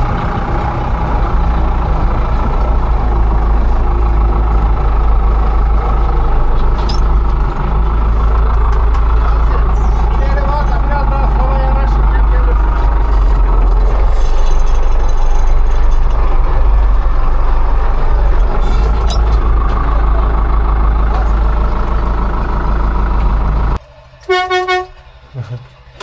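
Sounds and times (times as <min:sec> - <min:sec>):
tractor diesel engine droning: 0:00.0 - 0:26.0.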